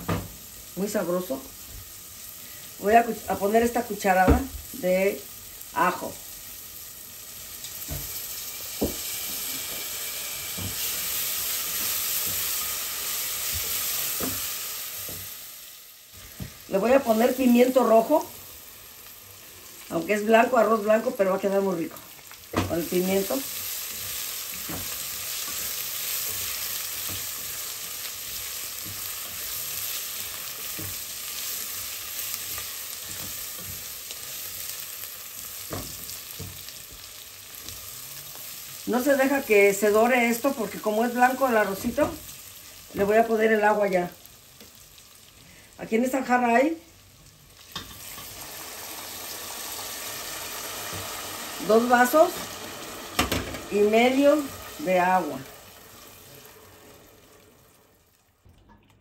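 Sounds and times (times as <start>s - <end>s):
rice and onion sizzling in oil: 0.0s - 58.5s.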